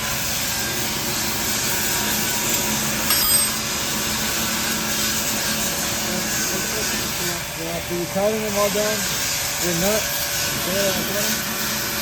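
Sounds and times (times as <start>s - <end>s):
power tool running: 0.0s - 12.0s.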